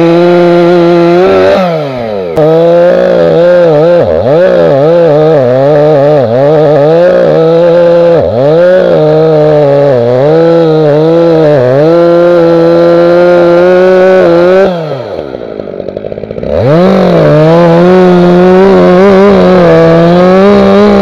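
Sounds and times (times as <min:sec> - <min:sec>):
chainsaw cutting into tree trunk: 0:00.0 - 0:21.0.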